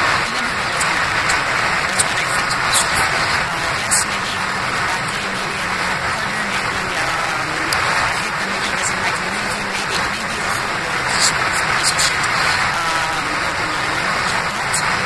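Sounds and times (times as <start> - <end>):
faint woman's voice: 0.0 - 15.0.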